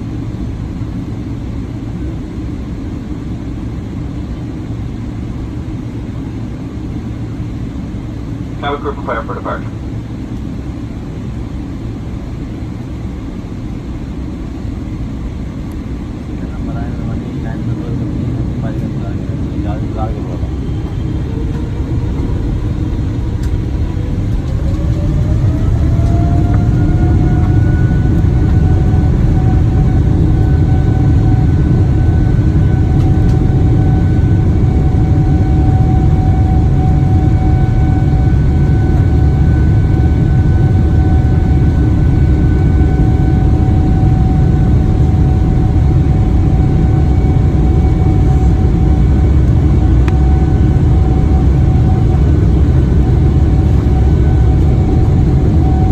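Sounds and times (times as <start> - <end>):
jet engines whine rising: 0.0 - 55.9
loud rumble of takeoff run: 0.0 - 55.9.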